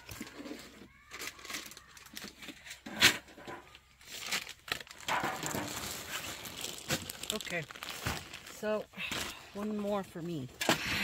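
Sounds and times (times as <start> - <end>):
wrapping crinkling: 0.0 - 2.8, 3.7 - 10.2.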